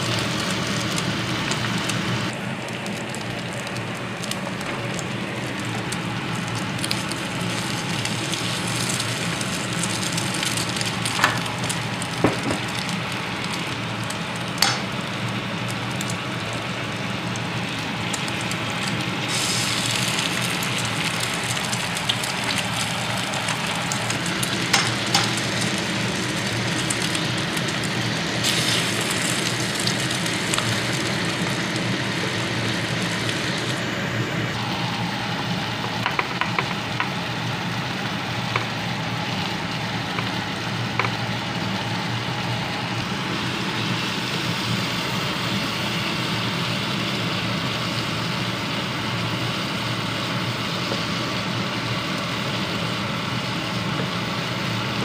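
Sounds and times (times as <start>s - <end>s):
cooker low hum: 0.0s - 55.0s
food sizzling in a frying pan: 0.0s - 55.0s.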